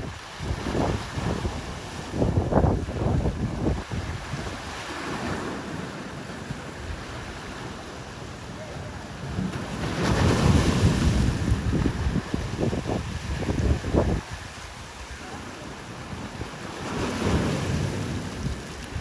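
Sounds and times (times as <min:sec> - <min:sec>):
ocean surf rushing: 0:00.0 - 0:19.0
wind on microphone: 0:00.0 - 0:19.0.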